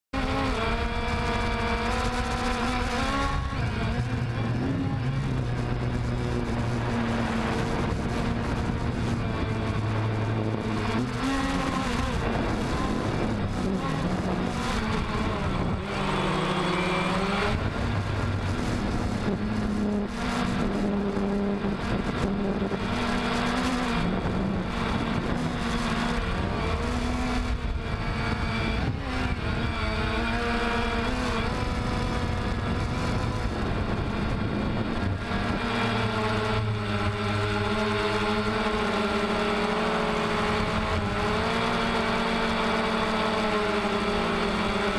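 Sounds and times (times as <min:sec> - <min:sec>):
drone propellers whining: 0:00.2 - 0:44.9.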